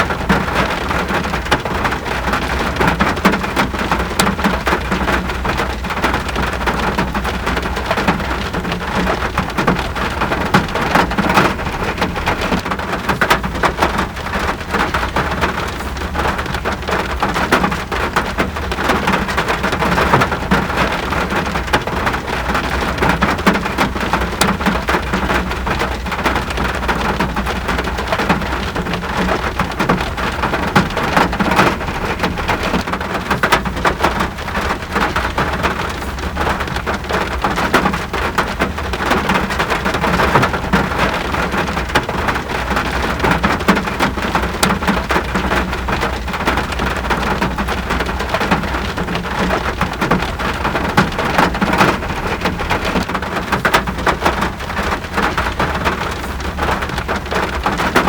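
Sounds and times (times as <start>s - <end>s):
rain hissing: 3.4s - 58.0s.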